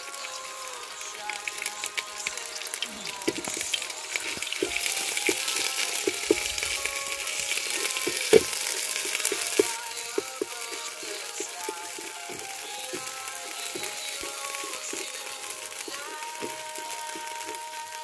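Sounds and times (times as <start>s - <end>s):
paste sizzling in hot oil: 0.0s - 18.0s
stick scraping a metal pot: 2.6s - 17.6s.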